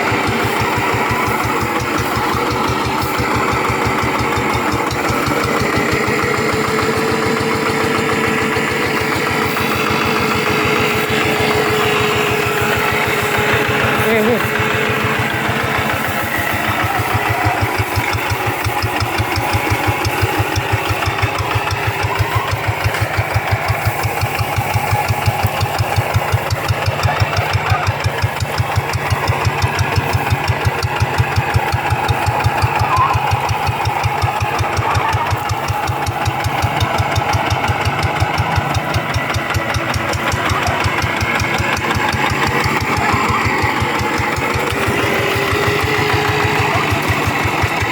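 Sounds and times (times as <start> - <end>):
hand tractor diesel engine: 0.0 - 47.9.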